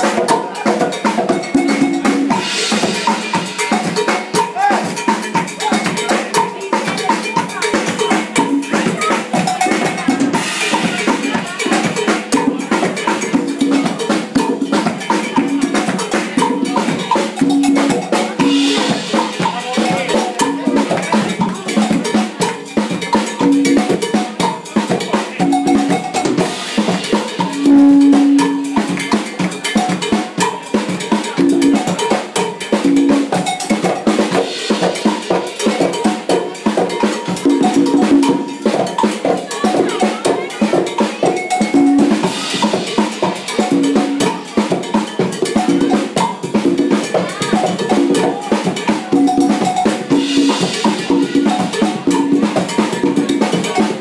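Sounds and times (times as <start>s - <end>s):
conga drums: 0.0s - 54.0s
drum kit: 0.0s - 54.0s.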